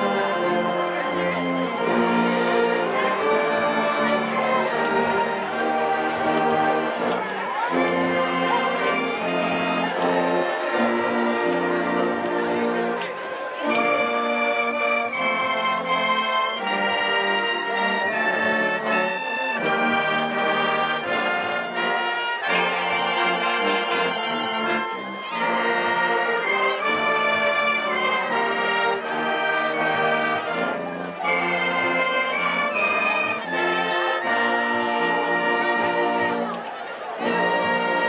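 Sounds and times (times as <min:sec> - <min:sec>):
marching band brass: 0:00.0 - 0:38.0.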